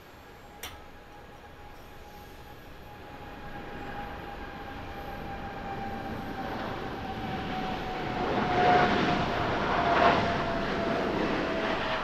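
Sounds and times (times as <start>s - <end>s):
jet fan whine: 0.0s - 12.0s
jet engines roaring: 0.6s - 12.0s.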